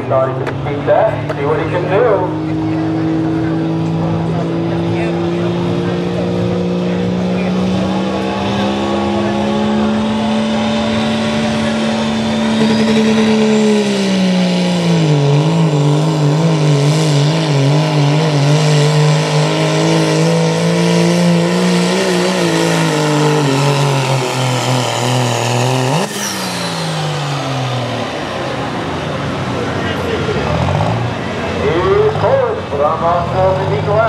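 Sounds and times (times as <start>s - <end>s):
diesel truck engine at full throttle: 0.0s - 34.0s.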